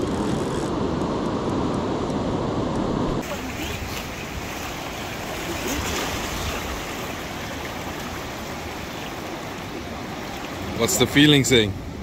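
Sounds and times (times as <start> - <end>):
surf washing up a beach: 1.9 - 12.0.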